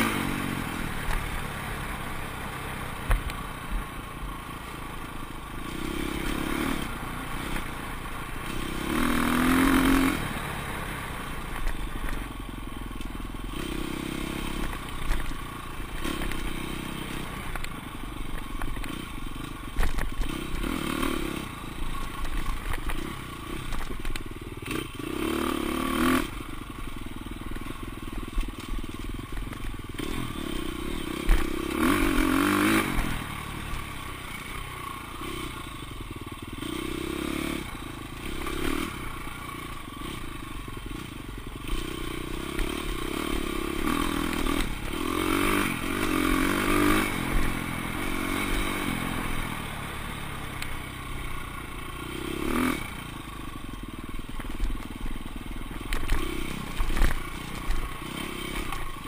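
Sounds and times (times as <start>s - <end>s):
dirt bike engine revving: 0.0s - 12.2s, 13.4s - 17.7s, 18.7s - 23.9s, 24.6s - 26.6s, 29.9s - 54.8s, 55.8s - 59.0s.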